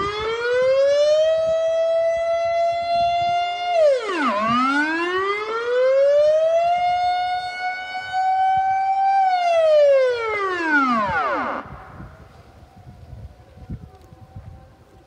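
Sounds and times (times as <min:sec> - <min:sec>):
air-raid siren wailing: 0:00.0 - 0:15.0.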